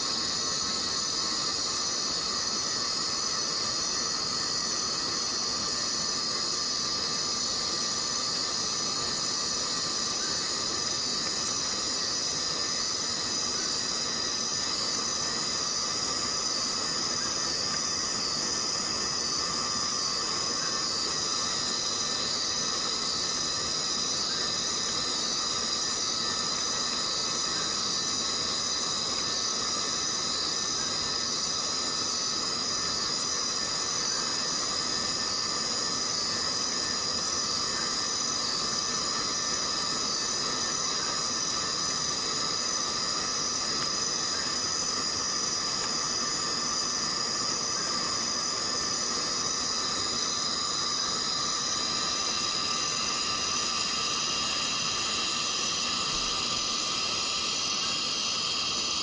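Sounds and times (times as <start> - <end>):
insects chirping shrilly: 0.0 - 59.0.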